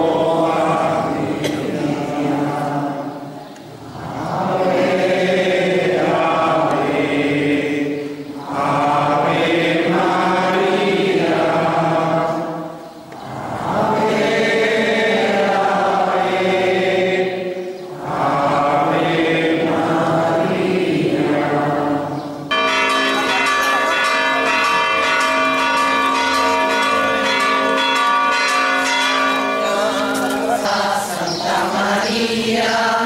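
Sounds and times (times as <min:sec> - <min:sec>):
group chanting a prayer: 0:00.0 - 0:22.5, 0:28.6 - 0:33.0.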